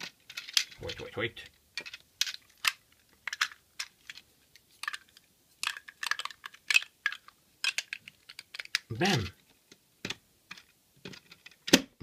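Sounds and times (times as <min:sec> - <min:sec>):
plastic bricks clicking: 0:00.0 - 0:12.0.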